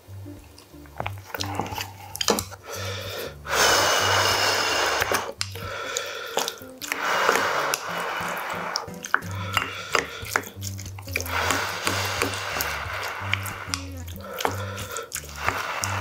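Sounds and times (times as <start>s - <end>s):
soft background music: 0.0s - 16.0s
person slurping: 1.1s - 16.0s.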